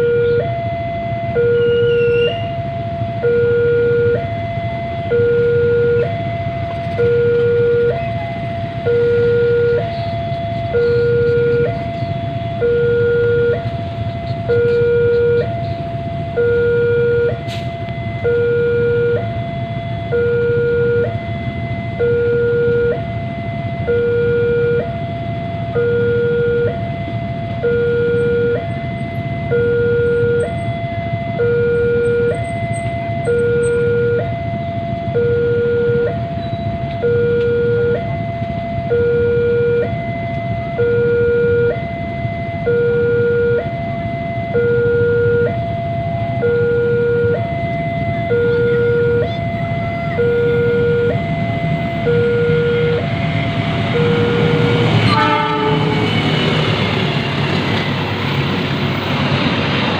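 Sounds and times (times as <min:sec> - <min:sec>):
low traffic rumble: 0:00.0 - 0:59.9
two-tone emergency siren: 0:00.0 - 0:59.9.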